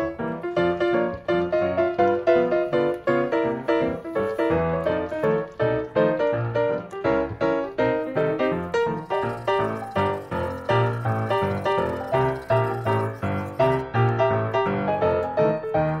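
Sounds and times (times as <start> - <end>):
piano music single notes: 0.0 - 16.0.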